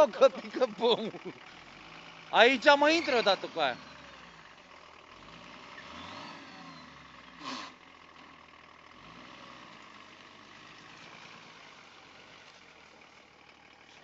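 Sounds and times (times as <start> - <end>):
truck engine at low revs: 0.0 - 14.0.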